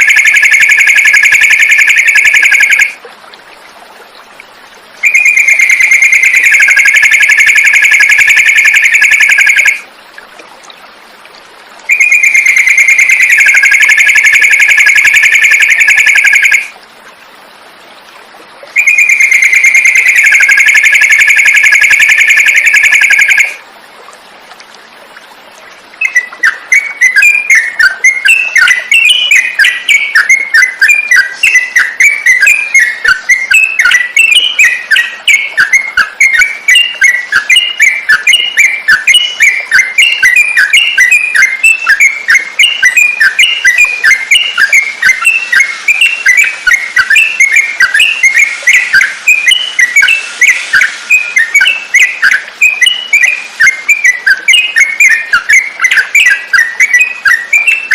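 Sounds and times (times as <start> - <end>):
bulbul chirping song: 0.0 - 3.0, 5.0 - 9.8, 11.9 - 16.7, 18.7 - 23.6, 26.0 - 57.9.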